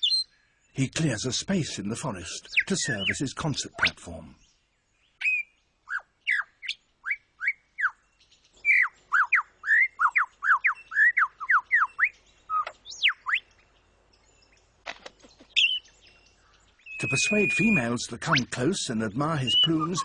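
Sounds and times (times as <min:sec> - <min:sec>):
lyrebird singing: 0:00.0 - 0:20.0.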